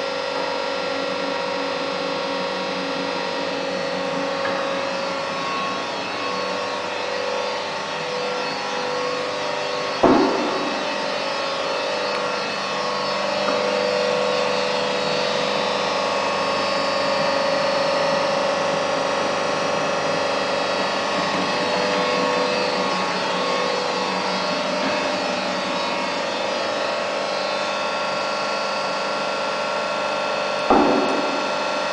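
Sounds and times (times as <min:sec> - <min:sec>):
machine hum with whine: 0:00.0 - 0:31.9.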